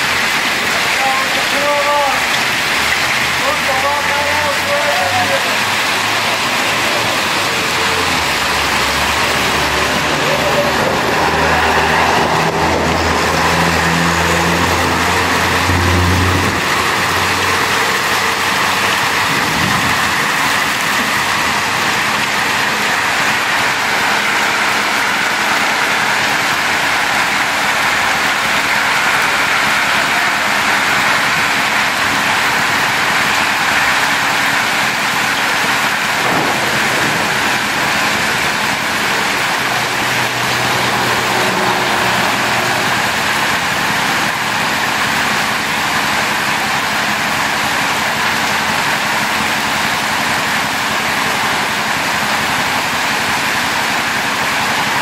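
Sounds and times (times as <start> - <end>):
heavy rain and hail: 0.0 - 55.0
vehicle engine humming: 0.0 - 55.0.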